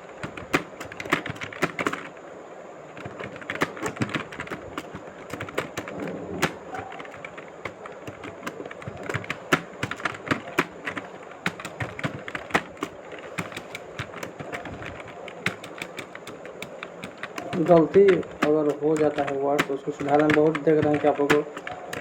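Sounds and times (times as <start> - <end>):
keyboard keys clicking: 0.0 - 2.2, 3.0 - 22.0.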